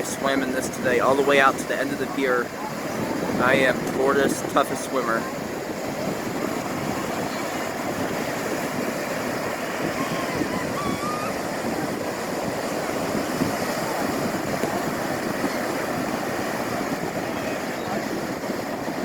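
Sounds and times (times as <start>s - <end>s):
surf breaking ashore: 0.0s - 19.0s
wind on microphone: 0.0s - 19.0s.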